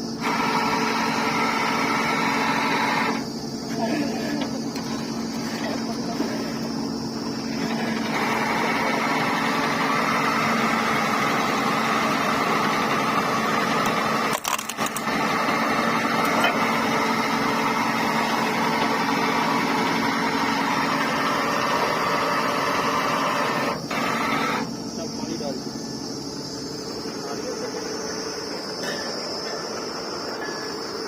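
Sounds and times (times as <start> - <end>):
drilling rig running: 0.0 - 31.0.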